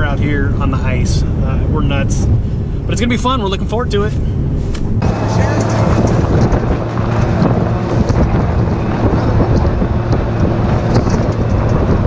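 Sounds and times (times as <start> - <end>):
vehicle engine running: 0.0 - 12.0
wind rushing over microphone: 0.0 - 12.0.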